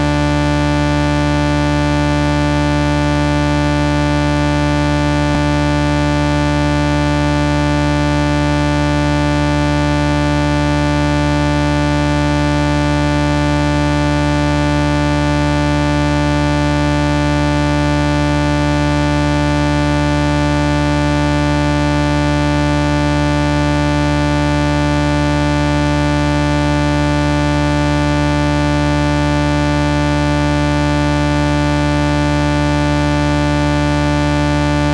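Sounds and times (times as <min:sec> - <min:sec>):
buzzing synthesized drone: 0:00.0 - 0:34.9.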